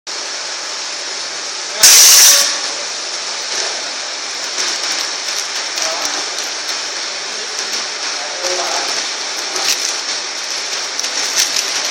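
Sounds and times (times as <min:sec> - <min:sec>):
loud burst of hiss: 0:00.1 - 0:11.9
band sealer hissing: 0:00.5 - 0:11.9.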